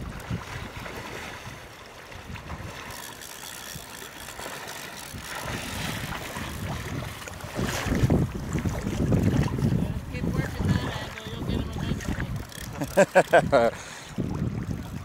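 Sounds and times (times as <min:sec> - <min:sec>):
wind buffeting microphone: 0:00.0 - 0:03.0, 0:05.0 - 0:15.0
water splashing: 0:00.0 - 0:15.0.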